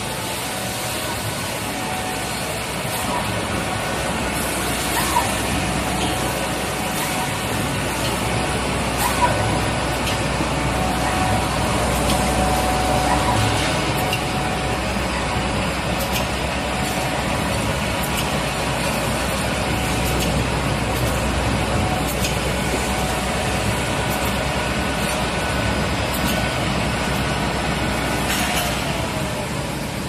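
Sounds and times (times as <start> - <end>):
machine humming with whine: 0.0 - 30.0.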